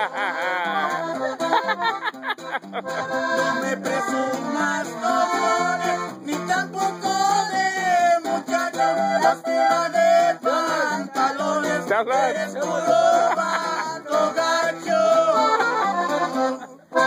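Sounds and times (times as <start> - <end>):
twelve-string guitar strummed: 0.0 - 17.0.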